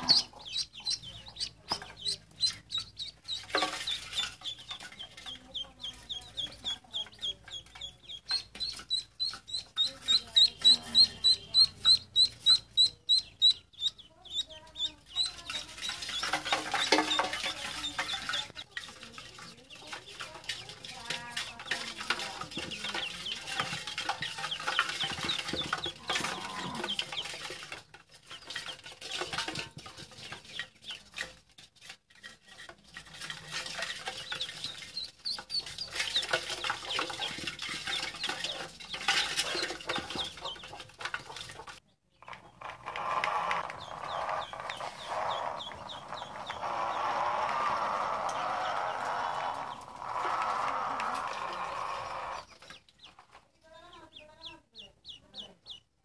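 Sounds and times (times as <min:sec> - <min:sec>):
ducklings peeping: 0:00.0 - 0:18.6, 0:19.4 - 0:20.8, 0:21.4 - 0:29.4, 0:30.2 - 0:31.2, 0:33.8 - 0:56.0.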